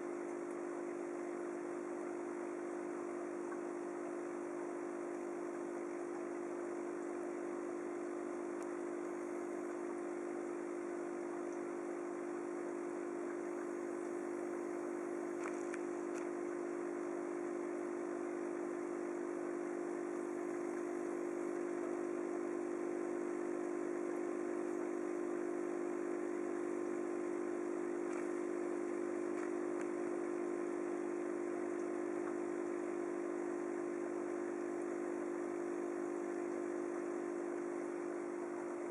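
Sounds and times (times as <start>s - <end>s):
aquarium pump humming: 0.0s - 38.9s.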